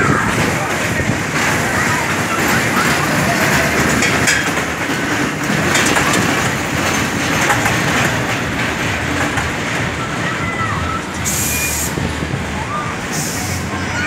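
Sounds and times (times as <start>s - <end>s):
roller coaster wheels rattling on rails: 0.0s - 14.0s.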